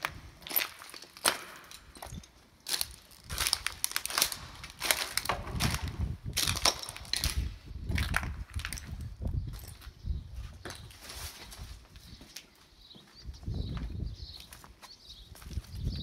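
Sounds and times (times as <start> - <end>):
footsteps crunching on broken glass: 0.0 - 16.0.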